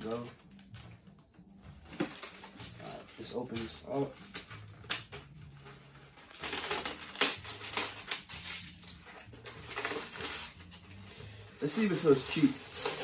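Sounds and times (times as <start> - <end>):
cardboard and plastic packaging crinkling: 1.8 - 13.0.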